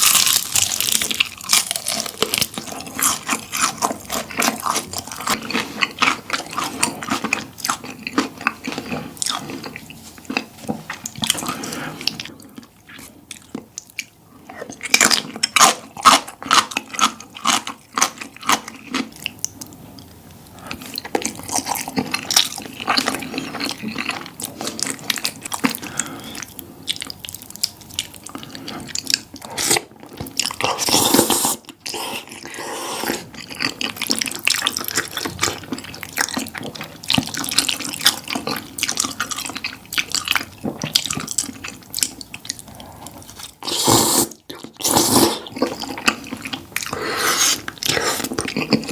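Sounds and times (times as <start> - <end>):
wet chewing and smacking: 0.0 - 43.6, 44.3 - 48.9.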